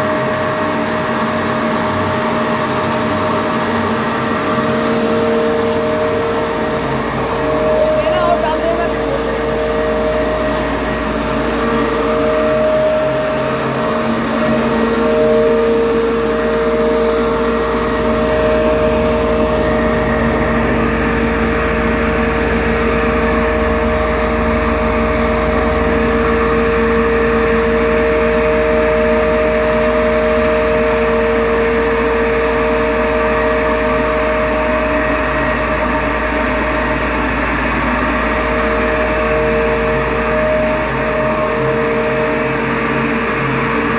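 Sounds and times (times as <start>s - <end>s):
grinding machine whine: 0.0s - 43.9s.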